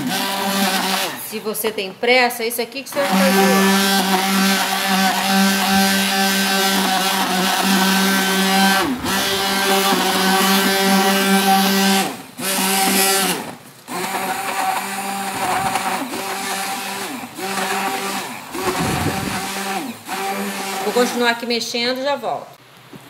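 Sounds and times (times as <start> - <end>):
immersion blender motor whining: 0.0 - 1.5, 2.9 - 21.3.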